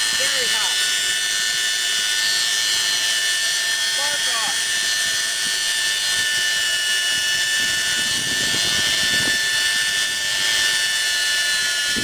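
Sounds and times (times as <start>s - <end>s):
jet engine whine and hiss: 0.0s - 12.0s.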